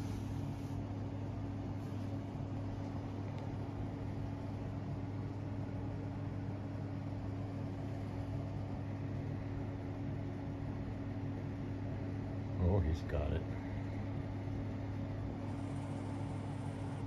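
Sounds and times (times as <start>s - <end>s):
constant hiss: 0.0s - 17.0s
low mechanical hum: 0.0s - 17.0s.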